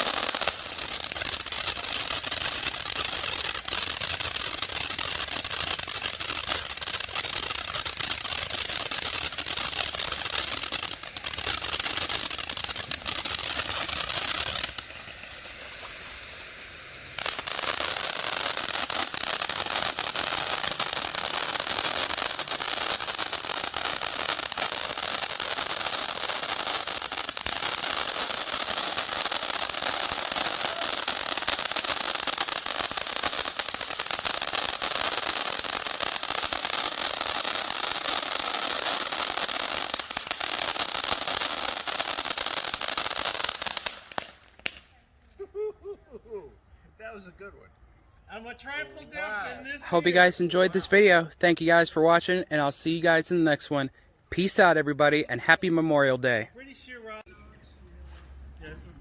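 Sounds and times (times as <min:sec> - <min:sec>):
fireworks crackling and popping: 0:00.0 - 0:45.4, 0:49.0 - 0:56.4.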